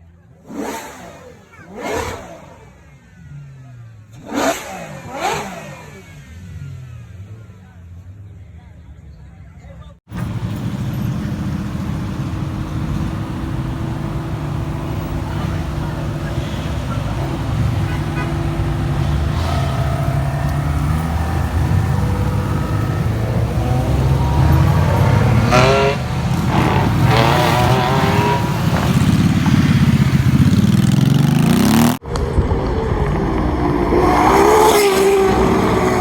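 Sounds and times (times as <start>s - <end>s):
second car engine: 0.0s - 36.0s
supercar engine revving: 0.2s - 8.4s, 10.1s - 36.0s.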